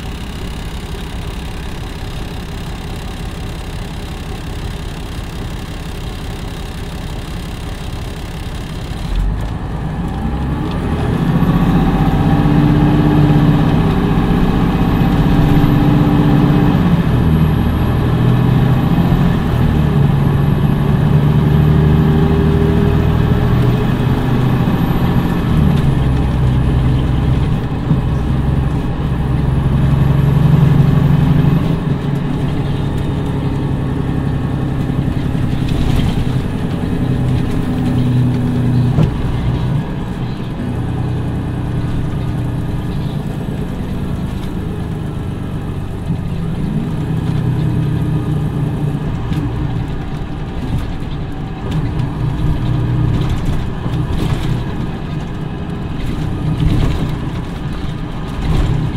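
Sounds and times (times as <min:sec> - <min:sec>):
diesel bus engine accelerating: 0:00.0 - 0:58.9.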